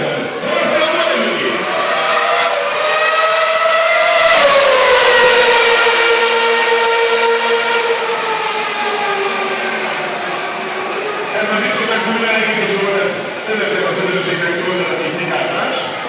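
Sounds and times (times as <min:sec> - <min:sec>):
racing car engine at high revs passing: 0:00.2 - 0:14.7.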